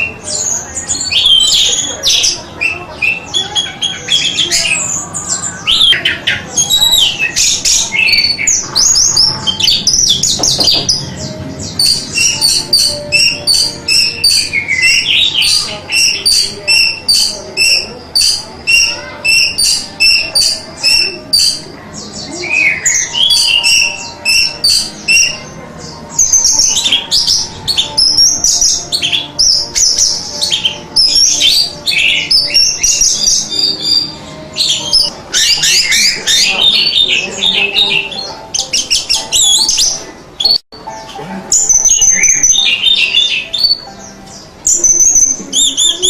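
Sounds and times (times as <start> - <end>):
thrush singing: 0.0 - 46.0.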